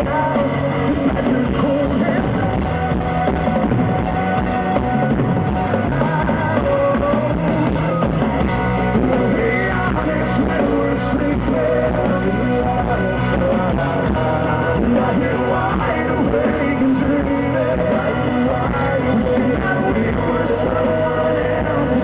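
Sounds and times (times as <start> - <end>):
live rock band: 0.0 - 22.0
man singing lead vocal: 0.0 - 22.0.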